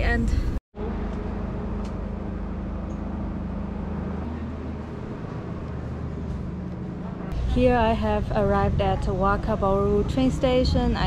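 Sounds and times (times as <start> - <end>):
constant hum: 0.0 - 11.0
diesel train rumbling: 0.0 - 11.0.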